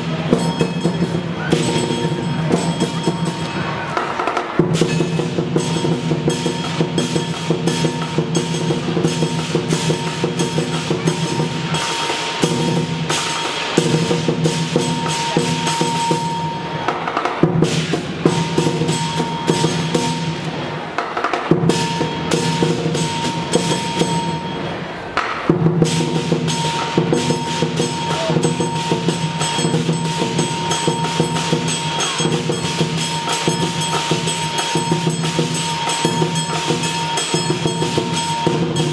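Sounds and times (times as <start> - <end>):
big drum beating rapidly: 0.0 - 24.6, 25.2 - 38.9
cymbals crashing: 0.0 - 38.9.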